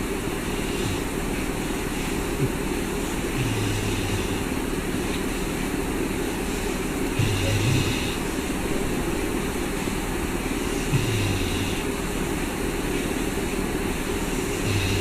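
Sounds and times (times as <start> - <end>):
whooshing fan noise: 0.0 - 15.0.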